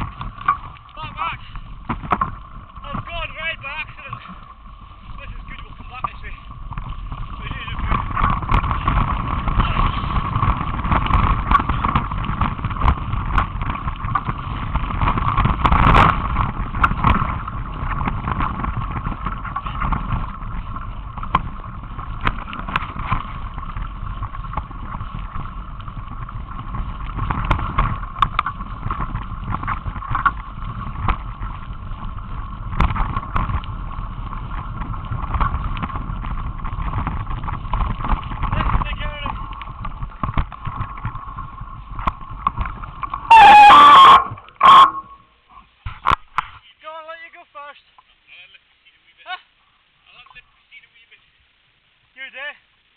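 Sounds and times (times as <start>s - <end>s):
bike knocking over bumps: 0.0s - 45.2s
bike tyres and frame rattling: 0.0s - 48.2s.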